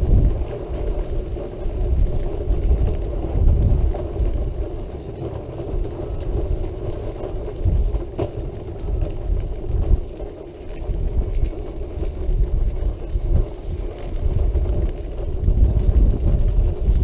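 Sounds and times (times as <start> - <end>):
wheelchair motor hum: 0.0 - 17.0
wheels rumbling on path: 0.0 - 17.0
wind on microphone: 0.0 - 17.0.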